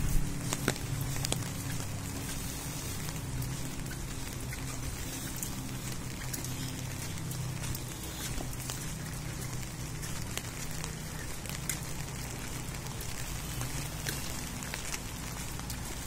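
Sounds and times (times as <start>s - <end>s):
raindrops ticking close by: 0.0s - 16.0s
steady rain falling: 0.0s - 16.0s.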